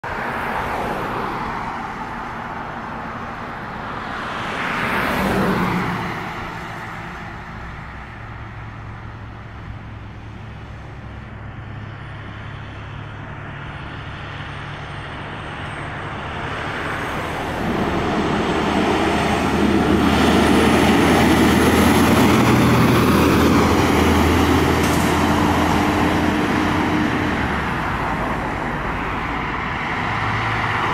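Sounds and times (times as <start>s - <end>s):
tyre noise on road: 0.0s - 30.9s
truck engine driving past: 4.9s - 30.9s.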